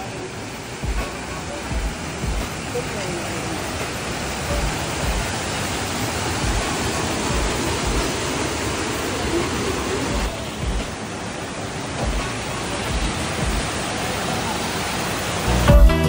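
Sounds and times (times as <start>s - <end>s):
water rushing over weir: 0.0s - 16.0s.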